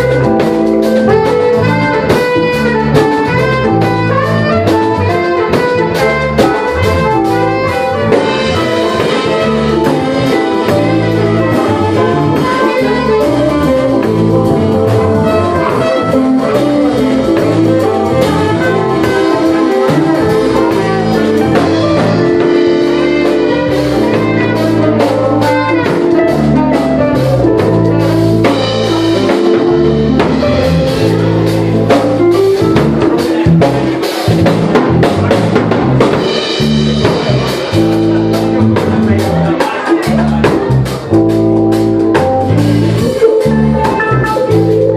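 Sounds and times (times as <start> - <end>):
jazz fusion band playing live: 0.0 - 44.9.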